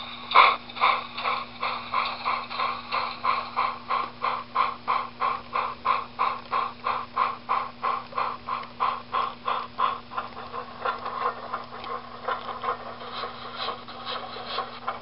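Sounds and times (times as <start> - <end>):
model train clicking on track: 0.0 - 15.0.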